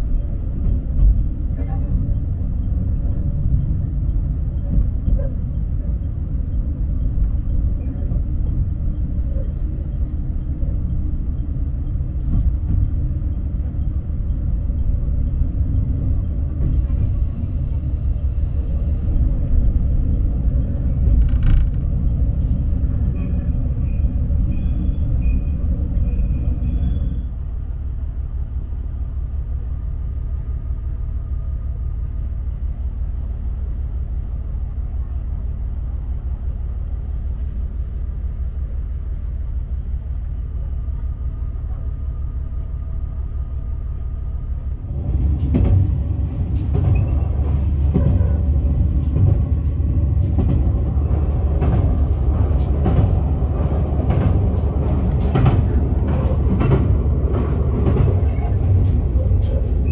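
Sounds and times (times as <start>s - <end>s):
railcar diesel rumble: 0.0s - 59.9s.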